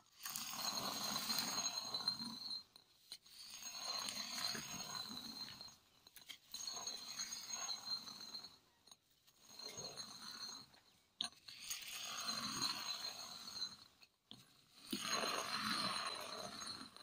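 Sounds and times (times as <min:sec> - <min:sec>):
stone quern grinding: 0:00.2 - 0:17.0.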